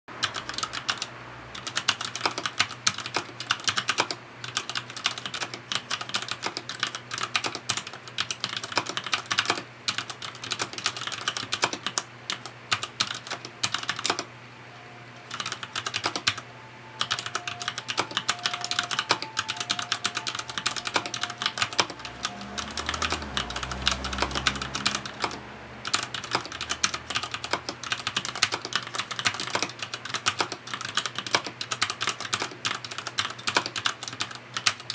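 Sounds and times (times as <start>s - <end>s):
fast typing on mechanical keyboard: 0.2s - 14.3s, 15.3s - 16.4s, 17.0s - 34.9s.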